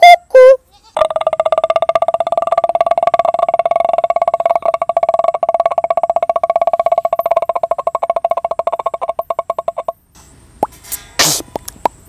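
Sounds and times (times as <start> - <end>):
man imitating engine vocally: 0.0 - 9.9.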